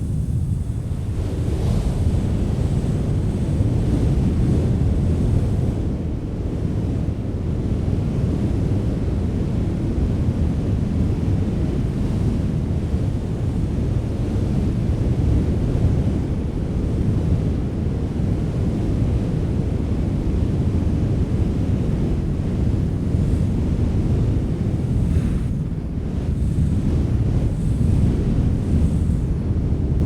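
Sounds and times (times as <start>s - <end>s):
rushing wind rumble: 0.0s - 30.0s.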